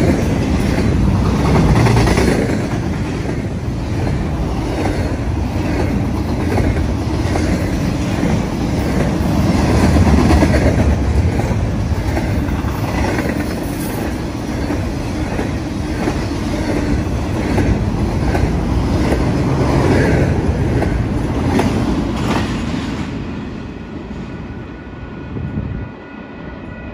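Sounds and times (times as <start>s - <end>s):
diesel locomotives passing: 0.0s - 26.9s
train rumble: 0.0s - 26.9s.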